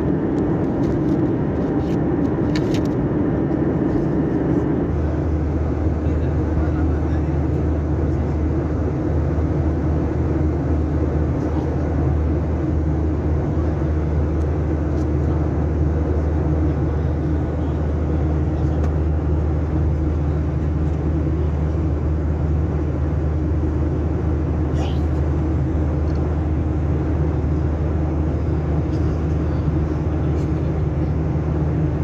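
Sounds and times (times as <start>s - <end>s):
aircraft cabin engine drone: 0.0s - 32.0s.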